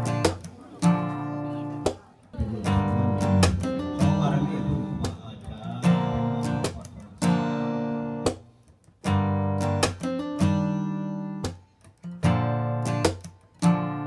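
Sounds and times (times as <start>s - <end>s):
acoustic guitar chords strummed: 0.0s - 14.0s.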